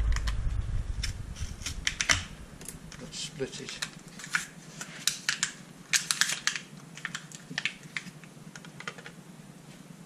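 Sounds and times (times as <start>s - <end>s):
packaging crackling: 1.0s - 9.2s.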